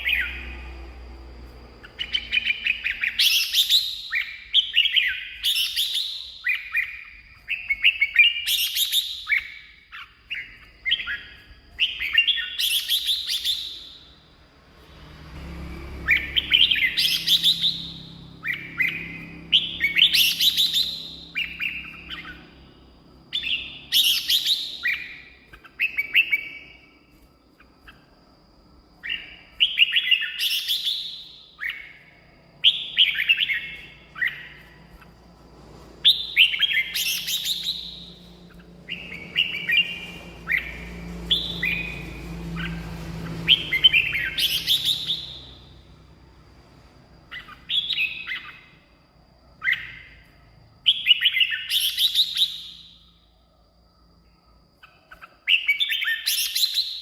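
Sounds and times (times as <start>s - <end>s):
bird singing warbled phrases: 0.0s - 35.4s, 36.0s - 46.0s, 47.2s - 48.9s, 49.5s - 53.2s, 54.8s - 57.0s.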